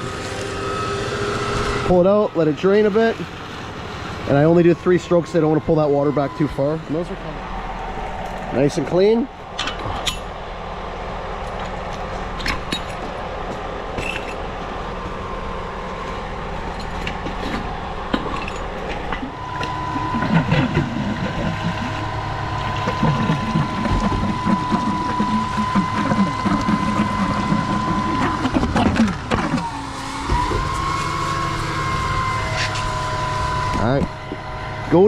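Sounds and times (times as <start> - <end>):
high whine: 0.0 - 35.0
truck engine hum: 0.0 - 35.0.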